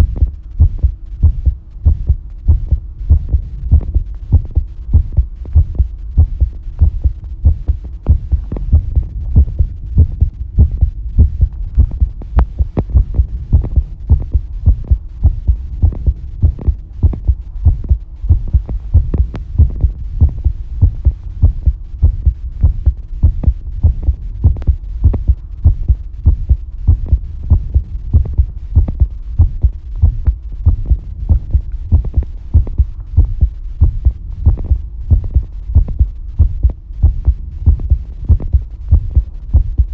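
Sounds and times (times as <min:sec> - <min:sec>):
faint steady hum: 0:00.0 - 0:39.9
heartbeat thumps: 0:00.0 - 0:39.9.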